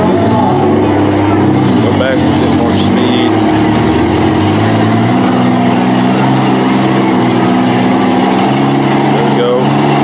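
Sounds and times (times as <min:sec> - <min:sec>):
truck engines revving: 0:00.0 - 0:10.0.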